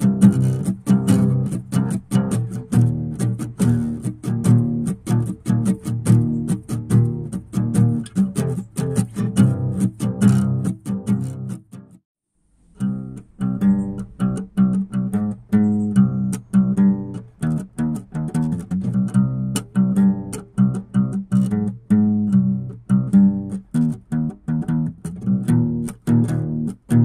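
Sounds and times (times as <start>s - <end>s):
plucked guitar music: 0.0s - 12.0s, 12.7s - 27.0s.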